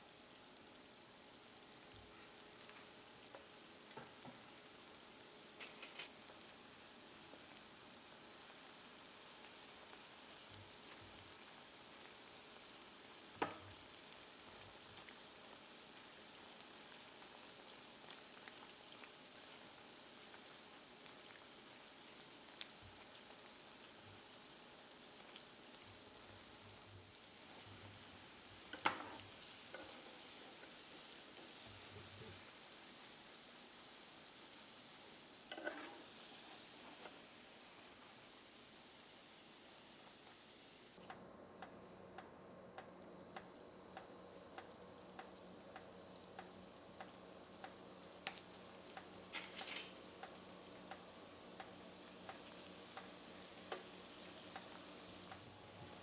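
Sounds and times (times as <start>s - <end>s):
dough sizzling in hot oil: 0.0s - 56.0s.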